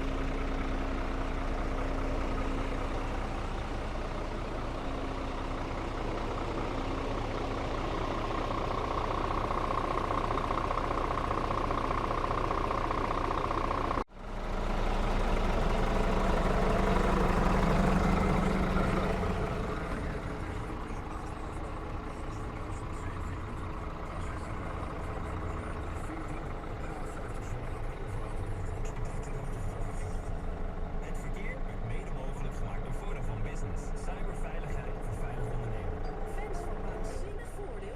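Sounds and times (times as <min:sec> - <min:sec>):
truck diesel engine idling: 0:00.0 - 0:37.9.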